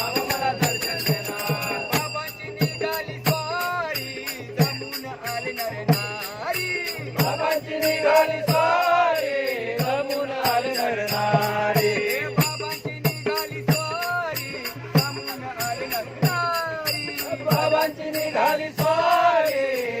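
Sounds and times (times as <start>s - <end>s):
percussion steady beat: 0.0s - 20.0s
voices singing devotional song: 0.0s - 20.0s.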